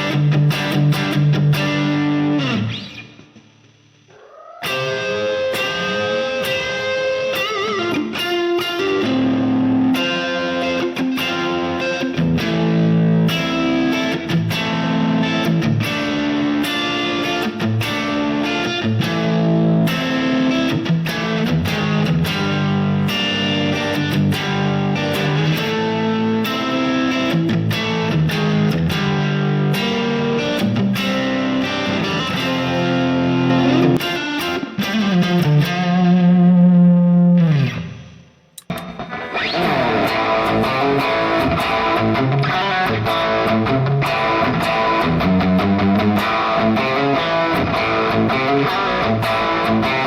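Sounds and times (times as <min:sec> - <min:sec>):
overdriven electric guitar: 0:00.0 - 0:50.0.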